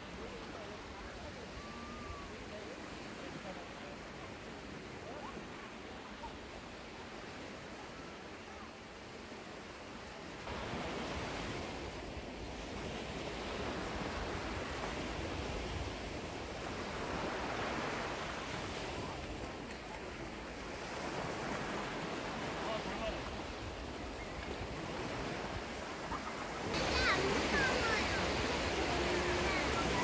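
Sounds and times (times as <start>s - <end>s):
small waves breaking on a beach: 0.0s - 30.0s.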